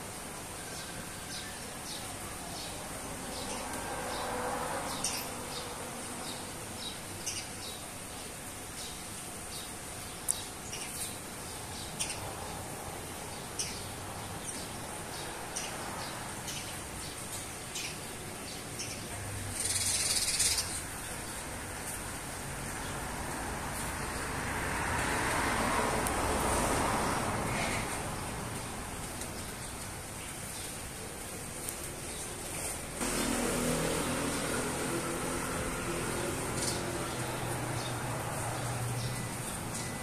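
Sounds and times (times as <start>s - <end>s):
sparrows chirping: 0.1s - 40.0s.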